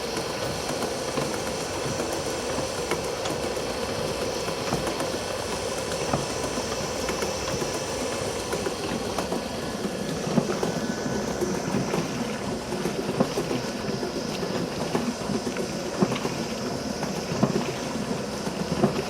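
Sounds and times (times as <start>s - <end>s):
washing machine agitator clattering: 0.0s - 19.0s.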